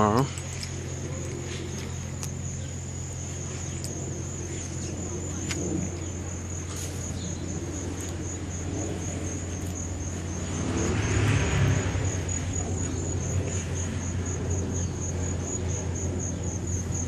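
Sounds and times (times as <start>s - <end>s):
car passing: 0.0s - 17.0s
insects chirping: 0.0s - 17.0s
low hum of traffic: 0.0s - 17.0s.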